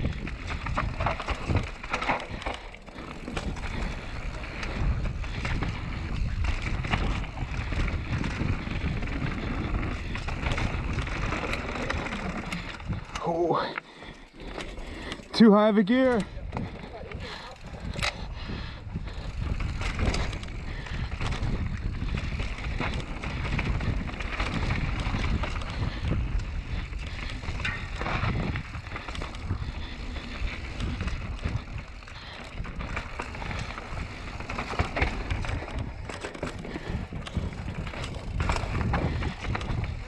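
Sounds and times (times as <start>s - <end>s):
bike rattling over roots: 0.0s - 40.0s
bike tyres rumbling over trail: 0.0s - 40.0s.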